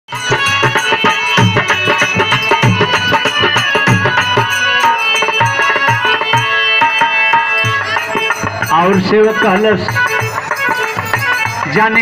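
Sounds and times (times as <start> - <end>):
held melodic notes: 0.1 - 12.0
tabla rhythm: 0.1 - 12.0.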